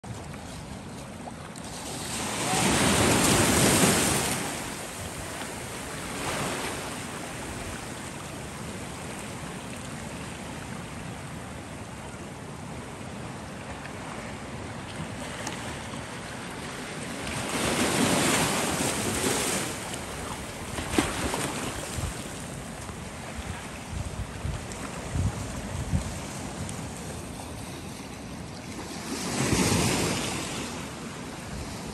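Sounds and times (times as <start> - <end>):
waves breaking: 0.0 - 31.9
ocean surf on rocky shore: 0.1 - 31.9.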